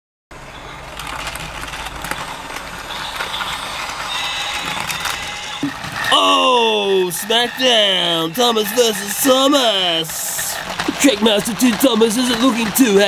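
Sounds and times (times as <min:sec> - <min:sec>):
thin high whine: 0:00.4 - 0:11.2
toy trains clattering on track: 0:00.7 - 0:13.0.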